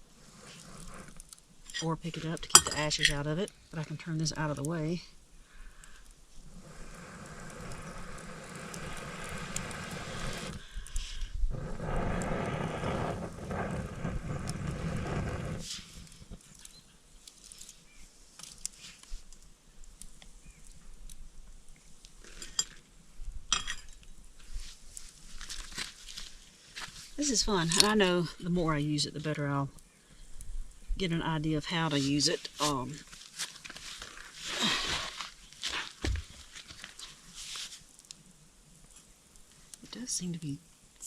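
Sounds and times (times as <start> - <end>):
campfire crackling: 0.0 - 41.0.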